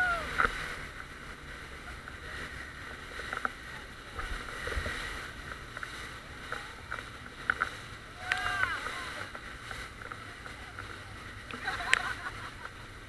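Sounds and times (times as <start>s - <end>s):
wind and water spray rushing: 0.0s - 13.0s.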